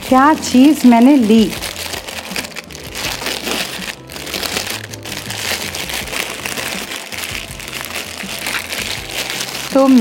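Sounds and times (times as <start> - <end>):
background music: 0.0 - 10.0
plastic wrapping crinkling: 0.0 - 10.0.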